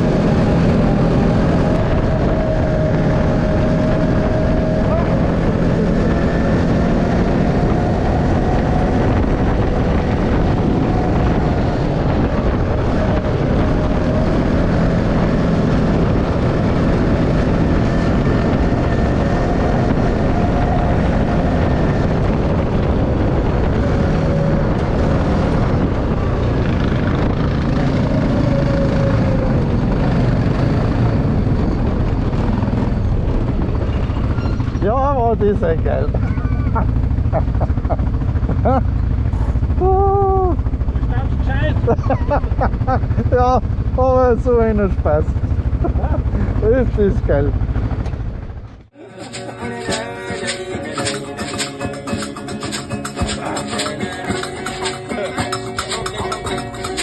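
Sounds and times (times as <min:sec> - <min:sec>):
motocross bike engine running: 0:00.0 - 0:57.0
wind noise: 0:00.0 - 0:57.0.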